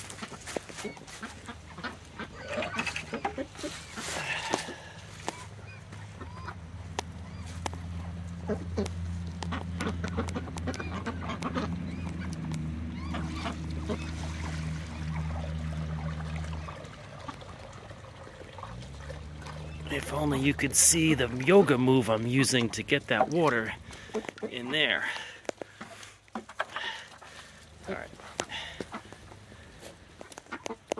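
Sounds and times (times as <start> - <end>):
low steady hum: 0.0 - 30.4
duck bills dabbling in feed: 0.0 - 30.9
ducks quacking: 0.0 - 30.9.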